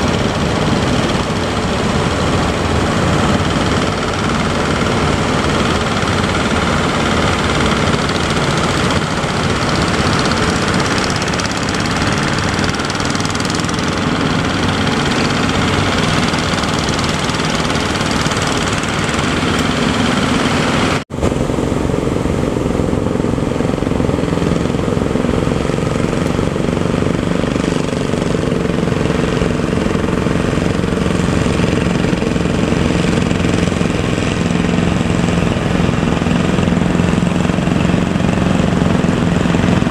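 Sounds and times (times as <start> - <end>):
boat engine running: 0.0 - 39.9
wash of noise: 0.0 - 39.9.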